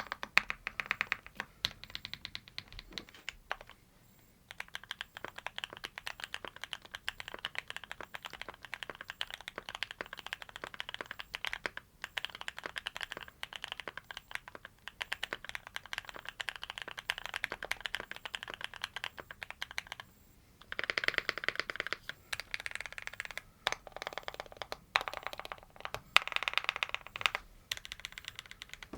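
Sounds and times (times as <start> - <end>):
mechanical keyboard typing: 0.0 - 3.8, 4.5 - 28.9.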